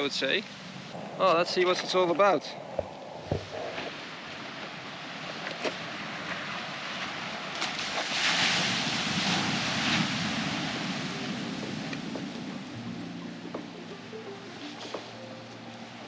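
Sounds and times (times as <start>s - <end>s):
ocean waves washing onto beach: 0.0s - 16.0s
wind buffeting microphone: 0.6s - 15.3s.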